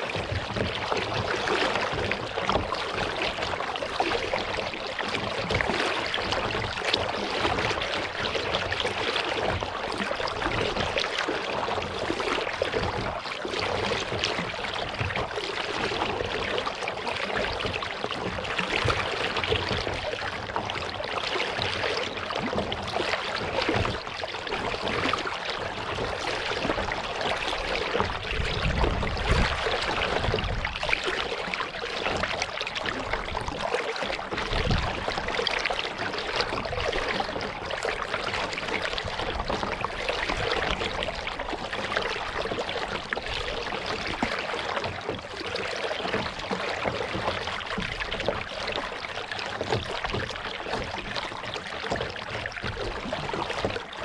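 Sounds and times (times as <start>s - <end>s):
paddle dipping and dripping: 0.0s - 54.0s
water splashing along hull: 0.0s - 54.0s.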